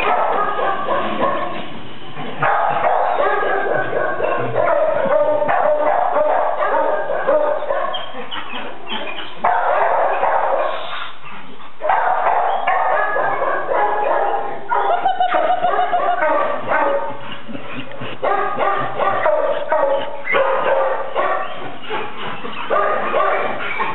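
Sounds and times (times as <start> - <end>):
many dogs barking and yelping: 0.0 - 23.9.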